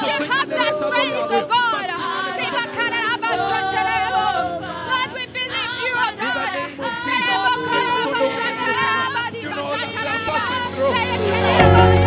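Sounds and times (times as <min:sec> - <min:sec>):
voices singing worship song: 0:00.0 - 0:12.0.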